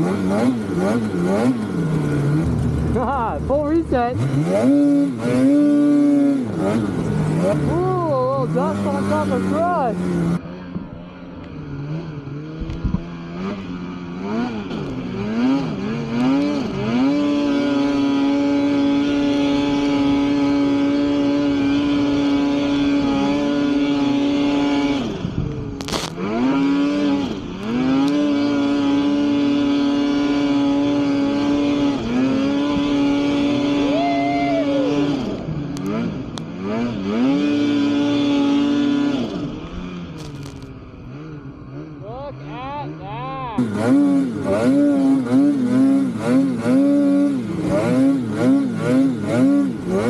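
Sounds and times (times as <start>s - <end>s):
snowmobile engine revving: 0.0s - 50.0s.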